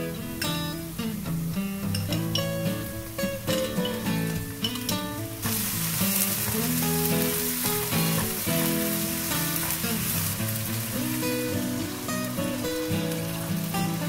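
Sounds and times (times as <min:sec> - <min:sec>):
sauce sizzling in a wok: 0:00.0 - 0:14.0.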